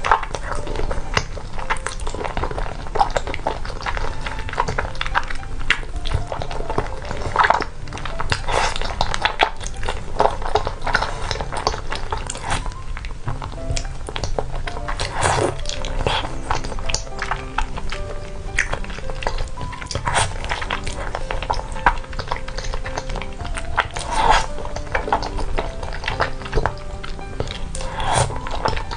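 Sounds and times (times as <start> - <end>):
person slurping and chewing noodles: 0.0 - 28.9.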